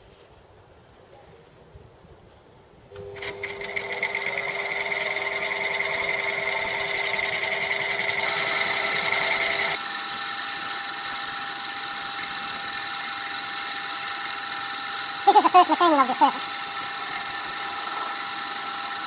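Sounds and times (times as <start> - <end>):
metal lathe whining: 3.0 - 19.0.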